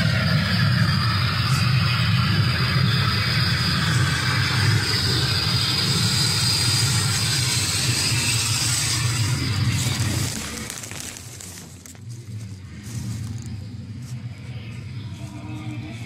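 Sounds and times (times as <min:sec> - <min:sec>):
heavy low rumble with hiss: 0:00.0 - 0:16.0.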